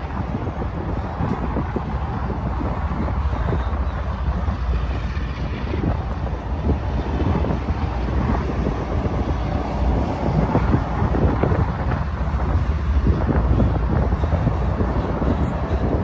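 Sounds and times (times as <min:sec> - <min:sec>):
train wheels rumbling on rails: 0:00.0 - 0:16.0
wind on microphone: 0:00.0 - 0:16.0.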